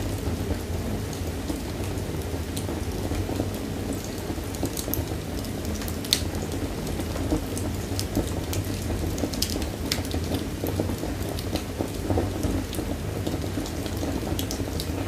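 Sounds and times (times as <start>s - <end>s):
wood fire crackling and popping: 0.1s - 15.0s.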